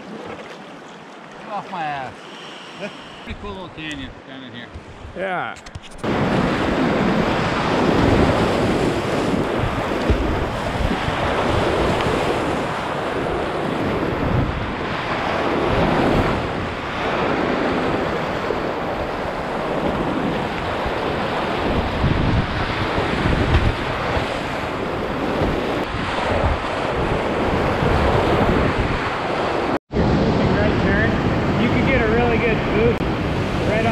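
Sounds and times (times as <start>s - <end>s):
wind buffeting microphone: 3.2s - 33.9s.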